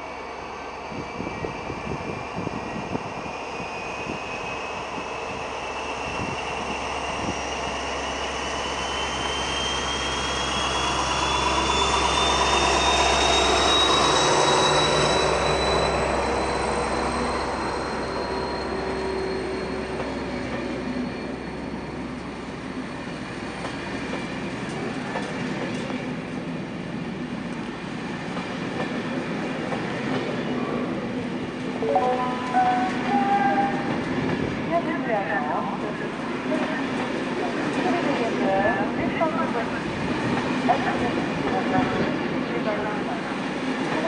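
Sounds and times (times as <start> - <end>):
diesel locomotive engine drone: 0.0 - 44.0
train coaches running noise: 0.0 - 44.0.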